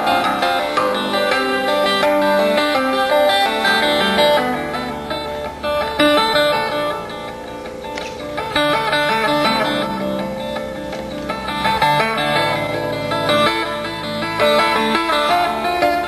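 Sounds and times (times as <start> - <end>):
harp guitar fingerstyle playing: 0.0 - 16.0.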